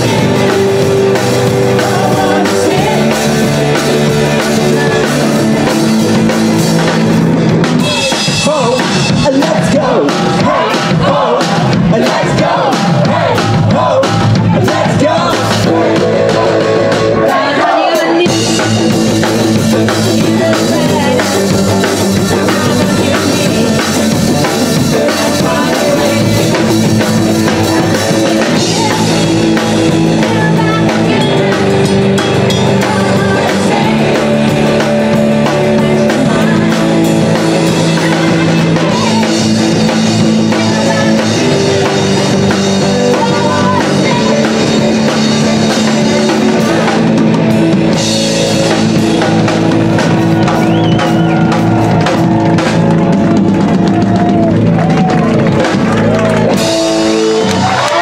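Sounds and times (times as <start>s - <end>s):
drum kit: 0.0s - 58.0s
electric guitar: 0.0s - 58.0s
upright bass: 0.0s - 58.0s.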